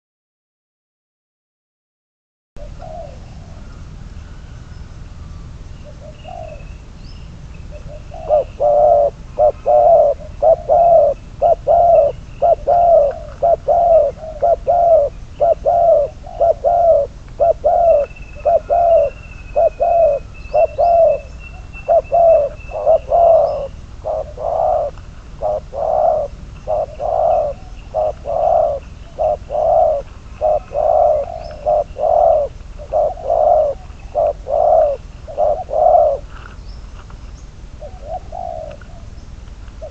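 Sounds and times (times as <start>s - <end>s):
dove cooing: 2.6s - 4.9s, 5.8s - 36.8s, 37.7s - 39.9s.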